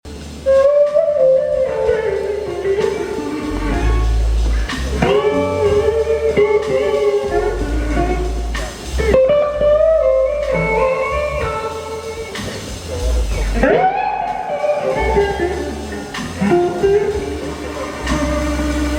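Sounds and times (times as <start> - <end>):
electric slide guitar lead: 0.1 - 18.9
live blues band: 0.1 - 18.9.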